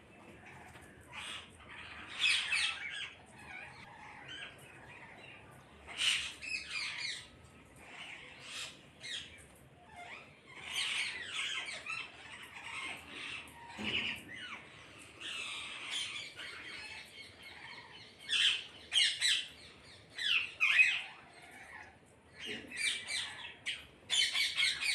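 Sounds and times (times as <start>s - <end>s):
parrots squawking: 0.3s - 24.9s.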